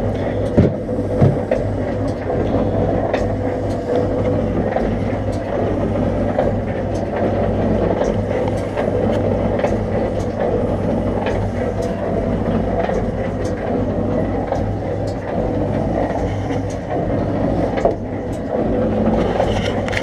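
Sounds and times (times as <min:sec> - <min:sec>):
pump motor humming: 0:00.0 - 0:20.0.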